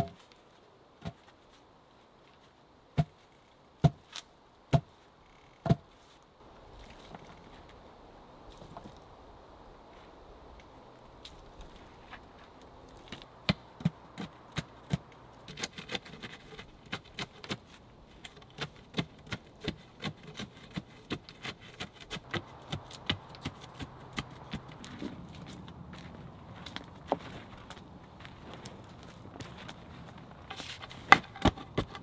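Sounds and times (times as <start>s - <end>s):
soil knocks and gritty crunches: 0.0s - 9.2s, 9.8s - 32.0s.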